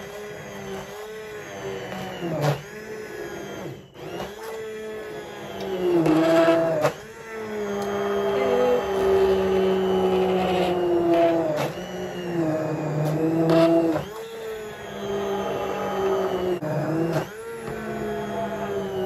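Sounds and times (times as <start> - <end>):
immersion blender motor whine: 0.0 - 19.0.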